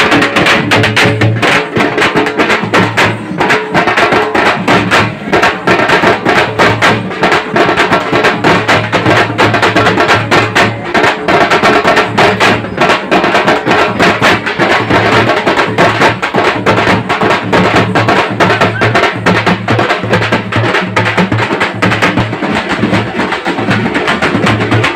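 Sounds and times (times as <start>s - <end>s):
rapid festival drumbeats: 0.0s - 24.9s.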